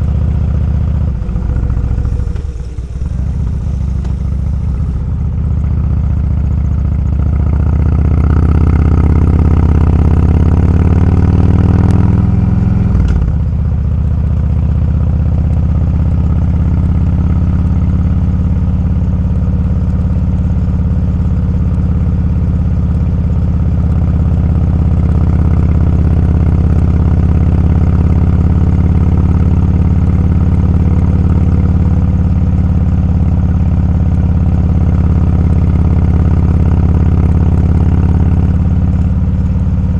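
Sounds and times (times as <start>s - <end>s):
motorcycle engine accelerating: 0.0s - 19.1s, 21.2s - 39.9s.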